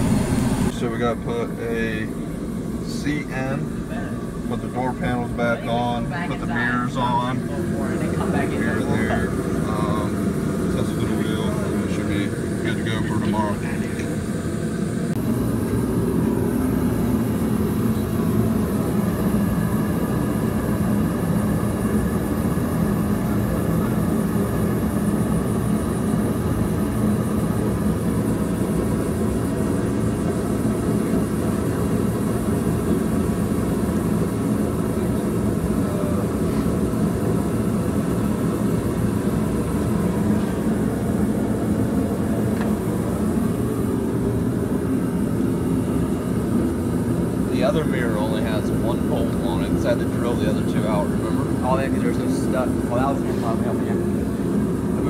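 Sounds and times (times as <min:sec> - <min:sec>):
machine rumble: 0:00.0 - 0:55.0.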